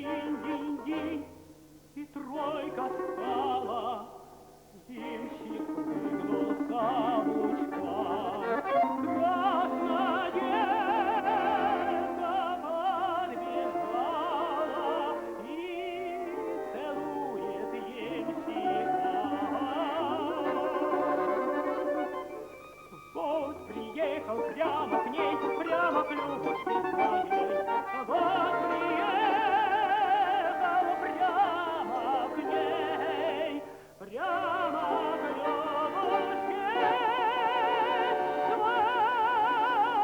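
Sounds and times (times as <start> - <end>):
operatic tenor singing: 0.0 - 40.0.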